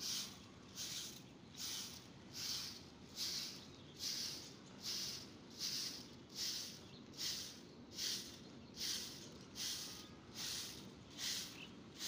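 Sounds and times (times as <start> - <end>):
broom sweeping grit on concrete: 0.0 - 12.0.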